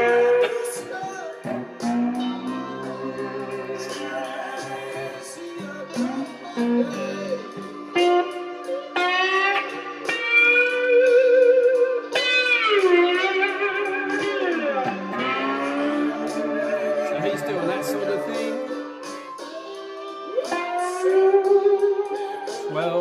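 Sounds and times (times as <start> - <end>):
blues slide guitar: 0.0 - 23.0.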